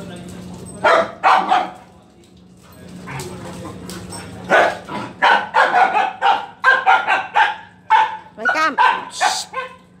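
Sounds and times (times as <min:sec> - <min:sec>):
dogs barking: 0:00.8 - 0:01.9, 0:03.0 - 0:10.0.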